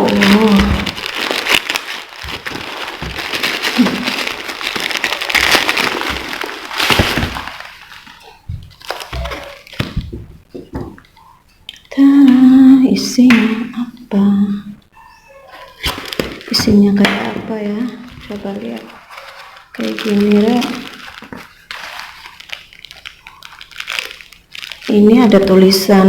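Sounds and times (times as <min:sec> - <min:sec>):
packaging crinkling and tearing: 0:00.0 - 0:12.0, 0:15.1 - 0:26.0.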